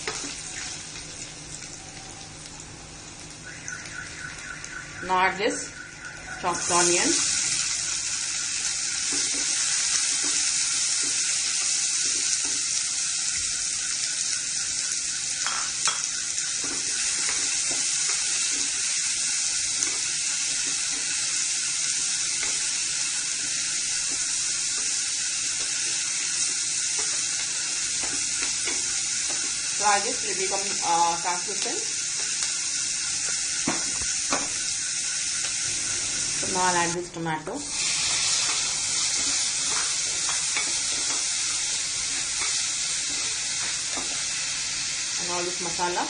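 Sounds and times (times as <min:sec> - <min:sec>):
onion sizzling in hot oil: 0:00.0 - 0:46.0.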